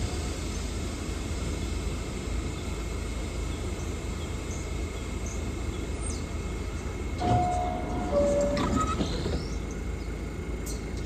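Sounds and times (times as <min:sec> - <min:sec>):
idling train rumble and hiss: 0:00.0 - 0:11.0.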